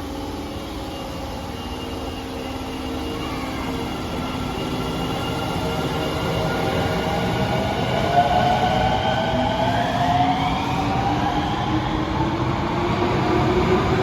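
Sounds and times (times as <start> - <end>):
subway train whining: 0.0 - 14.0.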